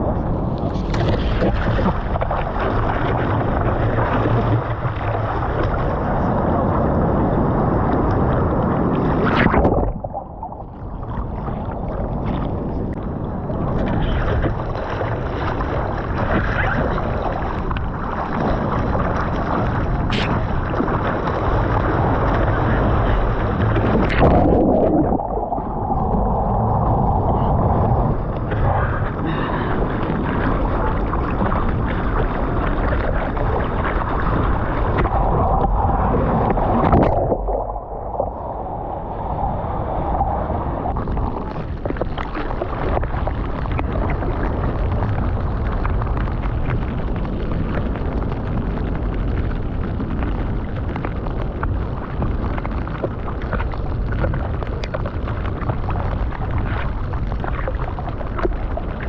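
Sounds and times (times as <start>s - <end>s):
ocean surf: 0.0s - 47.6s
wind on microphone: 0.0s - 59.0s.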